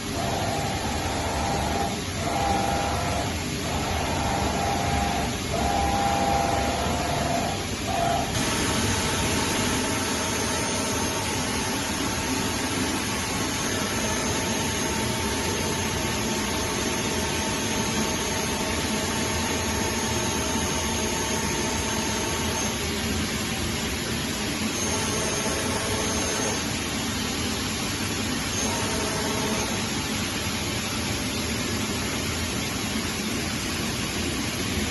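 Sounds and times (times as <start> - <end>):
milling machine hum and hiss: 0.0 - 34.9.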